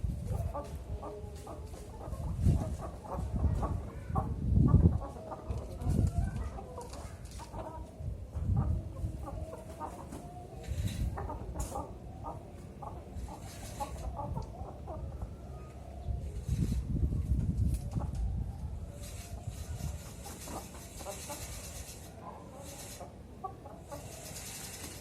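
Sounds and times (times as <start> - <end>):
doves cooing: 0.0 - 16.9, 18.0 - 25.0.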